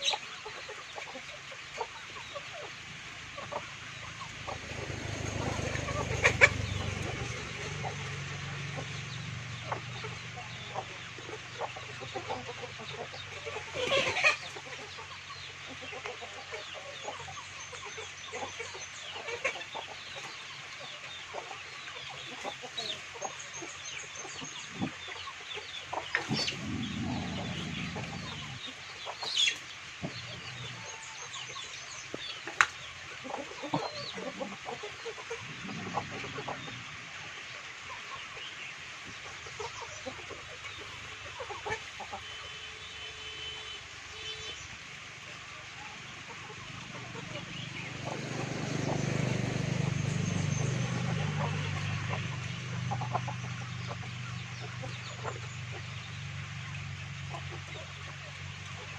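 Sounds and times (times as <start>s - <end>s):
chickens clucking: 0.0s - 42.5s, 45.2s - 58.9s.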